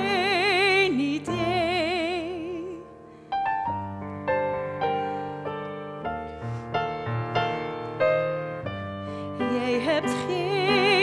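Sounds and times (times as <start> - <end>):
slow piano accompaniment: 0.0 - 11.0.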